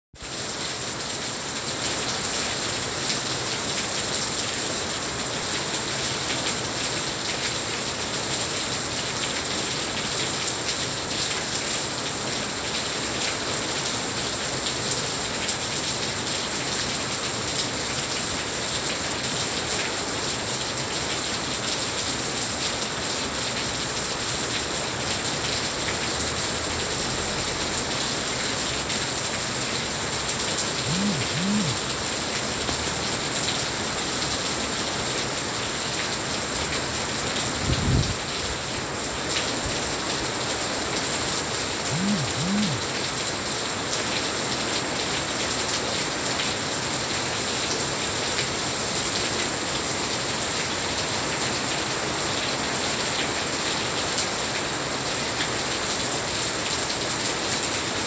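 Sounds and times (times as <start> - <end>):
heavy rain falling: 0.2 - 58.0.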